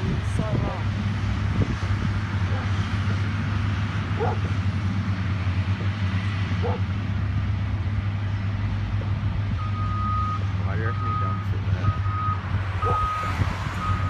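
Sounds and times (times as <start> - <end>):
diesel machinery droning: 0.0 - 14.0.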